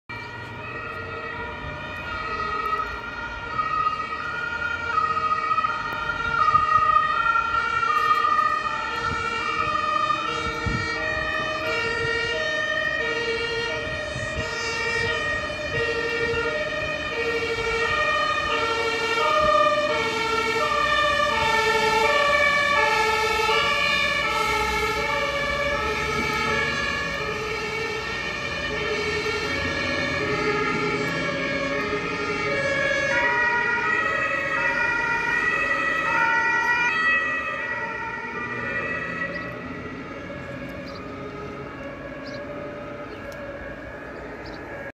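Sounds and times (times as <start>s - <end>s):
two-tone emergency sirens: 0.0s - 44.9s.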